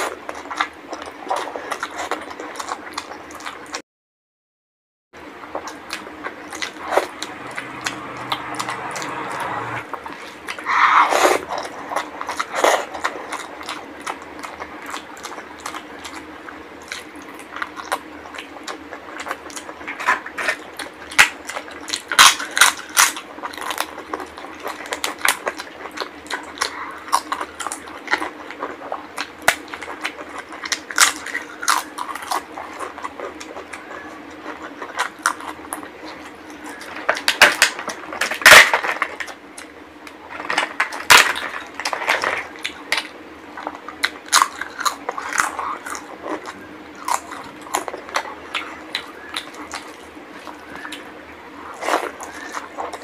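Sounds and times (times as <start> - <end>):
wet chewing and lip smacking: 0.0 - 3.8, 5.6 - 38.0, 42.5 - 51.1.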